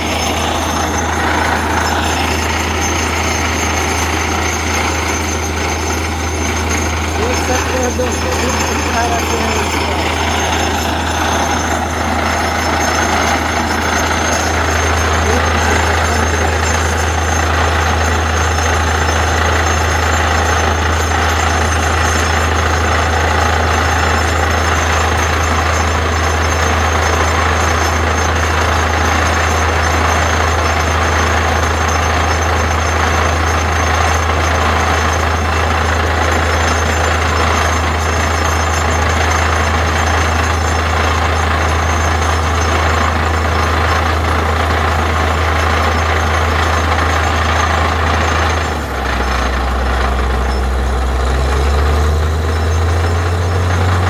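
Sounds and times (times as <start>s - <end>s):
drilling rig engine drone: 0.0s - 54.0s.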